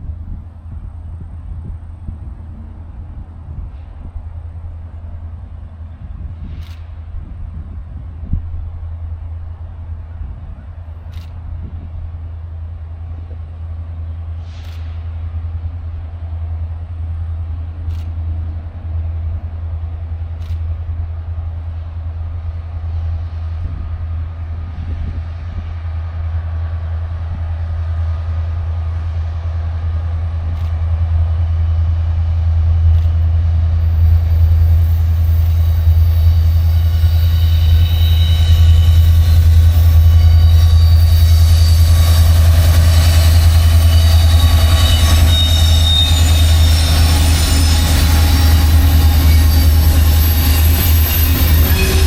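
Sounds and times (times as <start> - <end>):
diesel locomotive engines rumbling: 0.0 - 52.0.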